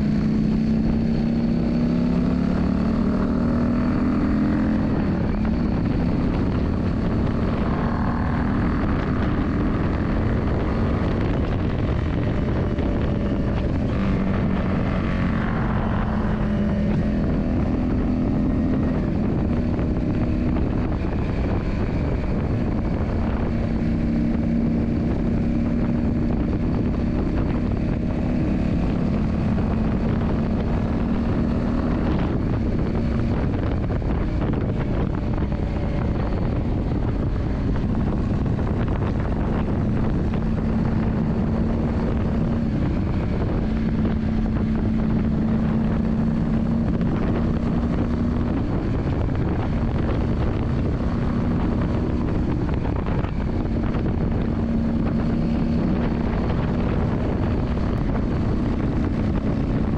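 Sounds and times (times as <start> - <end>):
motorcycle engine droning: 0.0 - 59.9
wind rushing over microphone: 0.0 - 59.9.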